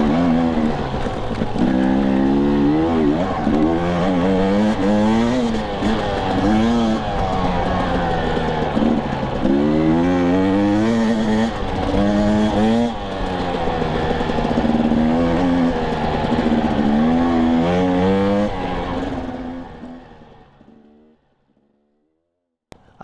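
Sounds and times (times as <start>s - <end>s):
dirt bike engine revving: 0.0s - 21.1s.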